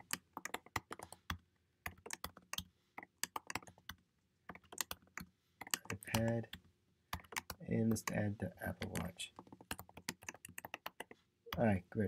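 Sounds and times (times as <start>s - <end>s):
computer keyboard typing: 0.0s - 11.6s.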